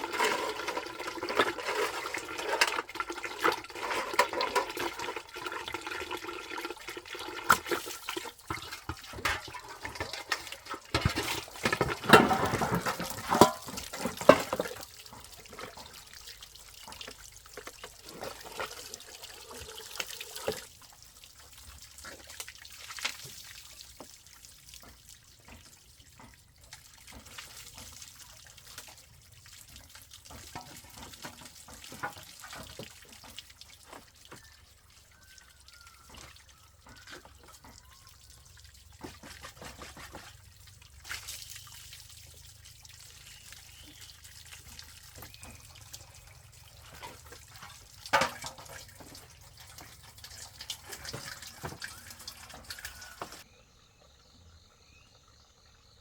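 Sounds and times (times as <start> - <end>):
water splashing and pouring: 0.0 - 53.5
water trickling and dripping: 0.0 - 56.0.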